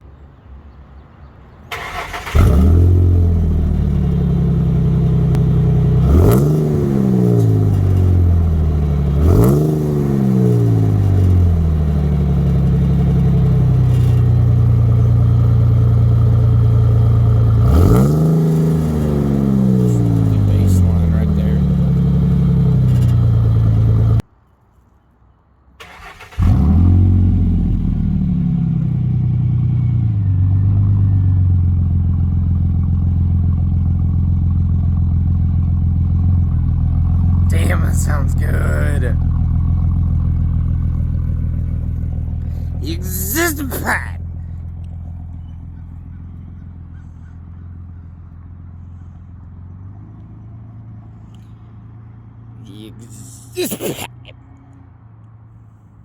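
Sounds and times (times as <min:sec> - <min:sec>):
truck engine starting and idling: 0:01.6 - 0:24.2, 0:25.8 - 0:50.4.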